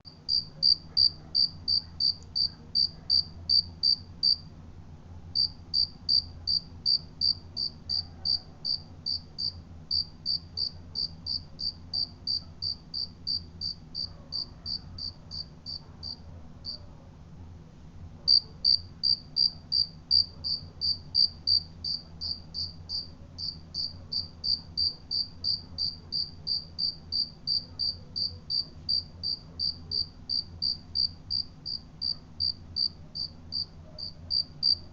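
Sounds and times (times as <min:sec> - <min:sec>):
cricket chirping: 0:00.2 - 0:04.4, 0:05.4 - 0:16.8, 0:18.3 - 0:34.9.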